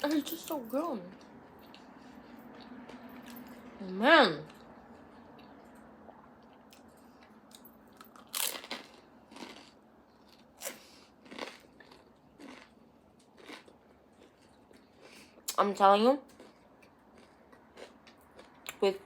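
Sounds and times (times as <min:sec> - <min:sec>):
person chewing and crunching food: 0:01.0 - 0:03.8, 0:04.4 - 0:15.6, 0:16.2 - 0:19.0.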